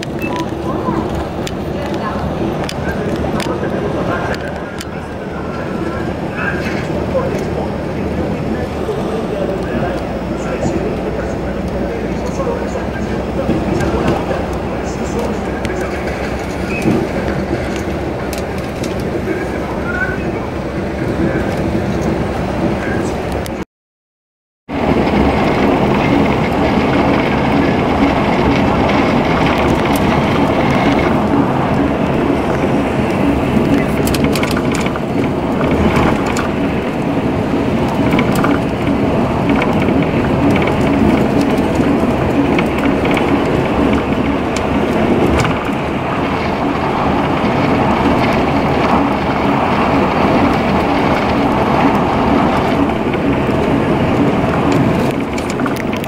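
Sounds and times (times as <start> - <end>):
car road and wind noise: 0.0 - 23.6, 24.7 - 56.0.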